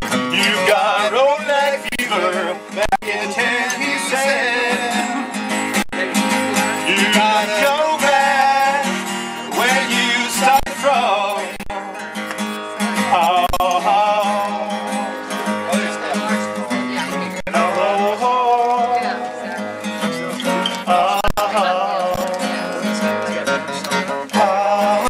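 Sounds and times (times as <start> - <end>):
acoustic guitar: 0.0 - 25.0
person singing: 0.3 - 5.6, 6.6 - 12.3, 13.0 - 15.4, 16.9 - 25.0.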